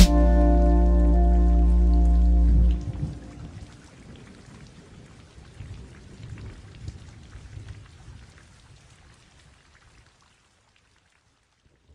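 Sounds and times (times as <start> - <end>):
rain falling: 0.0 - 11.9.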